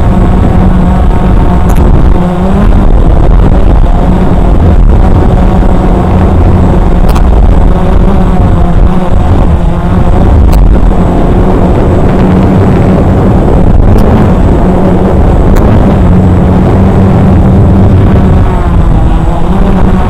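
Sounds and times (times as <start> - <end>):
drone propellers humming: 0.0 - 20.0
wind on microphone: 0.0 - 20.0.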